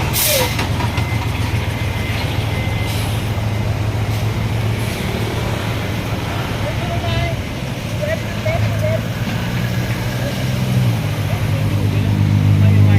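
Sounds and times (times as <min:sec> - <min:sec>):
diesel truck engine running: 0:00.0 - 0:12.9.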